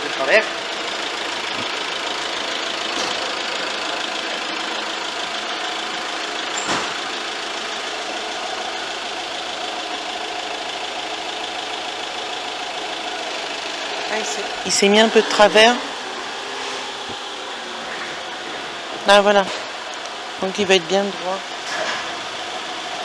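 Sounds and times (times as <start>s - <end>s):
brake test bench humming: 0.0s - 23.0s.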